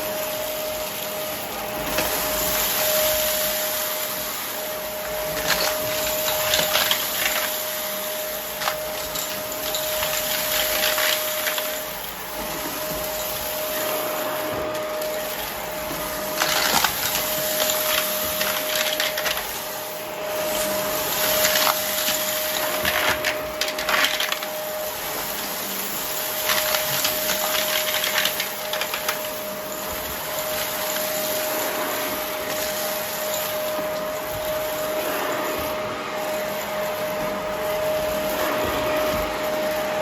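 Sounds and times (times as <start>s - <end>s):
debris crackling in vacuum: 0.0s - 40.0s
vacuum cleaner motor whine: 0.0s - 40.0s.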